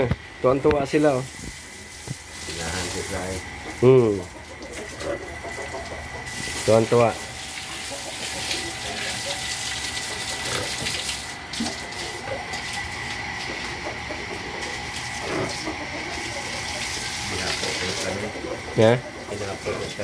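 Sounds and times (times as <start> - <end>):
water running: 0.8 - 20.0.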